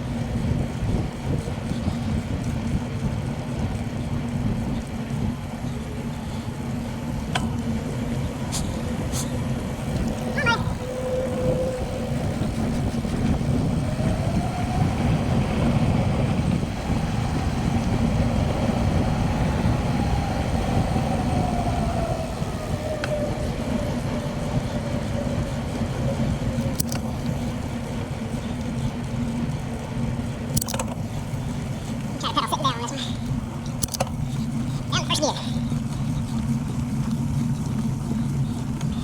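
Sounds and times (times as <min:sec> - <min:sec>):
bicycle tyres on road: 0:00.0 - 0:39.0
faint hum rising and falling: 0:00.0 - 0:39.0
wind buffeting microphone: 0:00.0 - 0:39.0.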